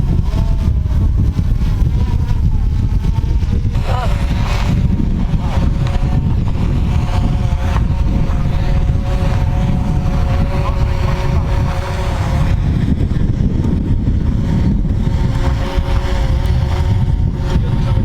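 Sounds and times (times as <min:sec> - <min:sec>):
jet ski engine running: 0:00.0 - 0:18.0
wind buffeting microphone: 0:00.0 - 0:18.0.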